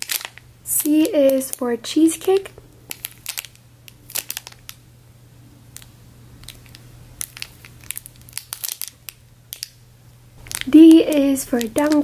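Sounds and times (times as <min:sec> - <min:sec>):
plastic bag crinkling: 0:00.0 - 0:04.8, 0:05.7 - 0:09.8, 0:10.4 - 0:12.0.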